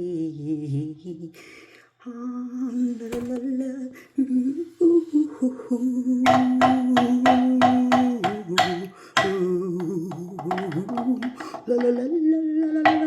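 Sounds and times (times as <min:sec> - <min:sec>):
woman singing without words: 0:00.0 - 0:01.4, 0:02.0 - 0:13.0.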